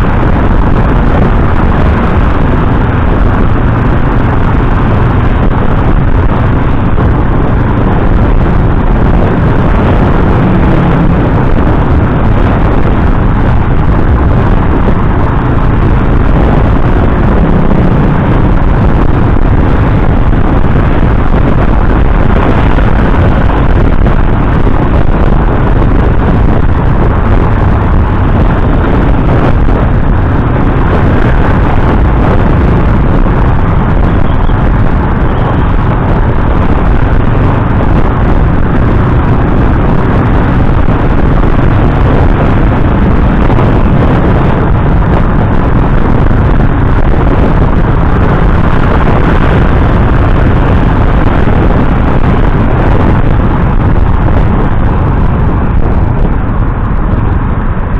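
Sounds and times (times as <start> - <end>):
motorcycle engine riding: 0.0 - 57.9
wind rushing over microphone: 0.0 - 57.9.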